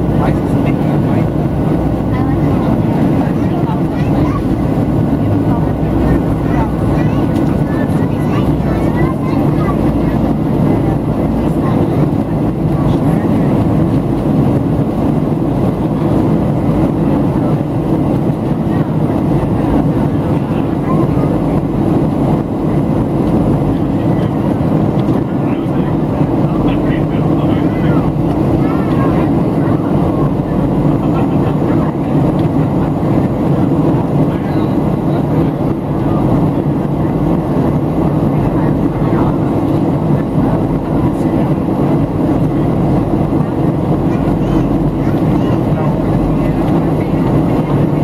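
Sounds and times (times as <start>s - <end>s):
aircraft cabin engine rumble: 0.0s - 48.0s
airflow over fuselage: 0.0s - 48.0s.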